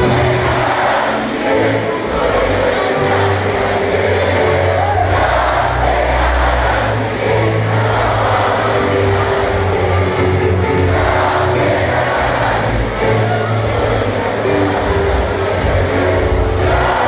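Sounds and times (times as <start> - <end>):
live band music over speakers: 0.0 - 17.0.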